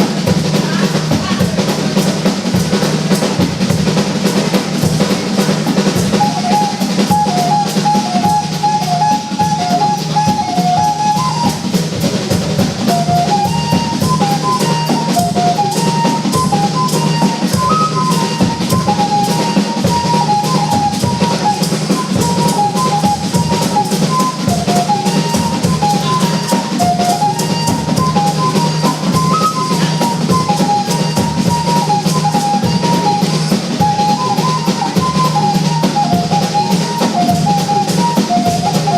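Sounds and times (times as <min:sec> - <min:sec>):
drum kit playing fast rhythm: 0:00.0 - 0:38.9.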